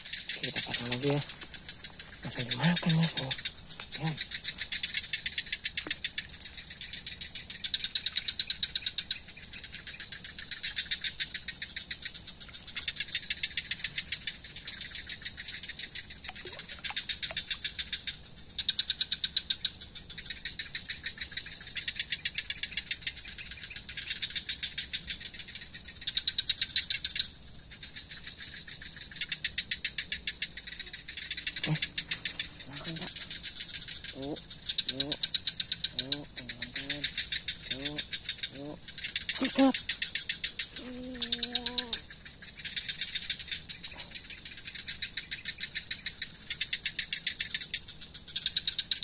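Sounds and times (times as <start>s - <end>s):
high-pitched insect drone: 0.0s - 49.0s
insects chirping: 0.0s - 49.0s.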